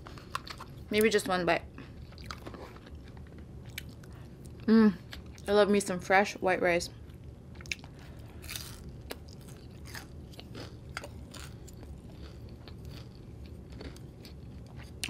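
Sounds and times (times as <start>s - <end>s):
person chewing food: 0.0s - 0.9s, 1.8s - 5.5s, 7.0s - 15.0s.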